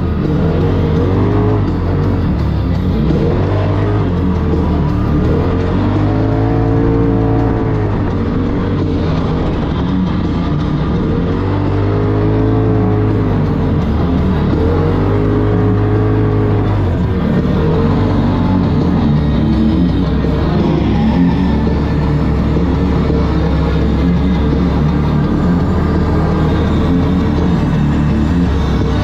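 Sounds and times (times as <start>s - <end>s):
engine revving: 0.0s - 29.0s
loud rock music: 0.0s - 29.0s.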